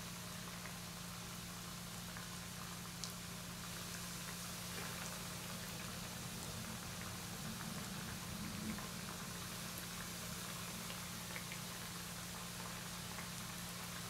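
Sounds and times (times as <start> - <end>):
oil sizzling and crackling: 0.0 - 14.0.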